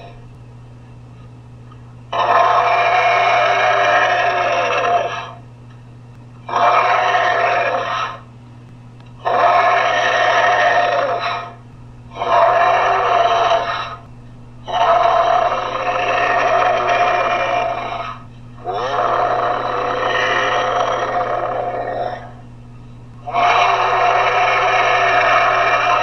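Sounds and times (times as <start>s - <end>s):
steady low hum: 0.0s - 26.0s
harsh dinosaur calls: 2.1s - 5.4s, 6.5s - 8.3s, 9.2s - 22.5s, 23.2s - 26.0s.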